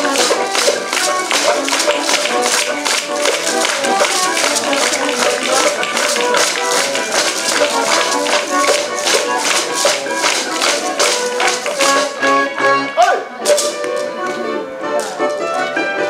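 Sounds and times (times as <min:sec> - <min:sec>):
wooden percussion clacking: 0:00.0 - 0:12.4, 0:13.4 - 0:14.4
folk music: 0:00.0 - 0:16.0.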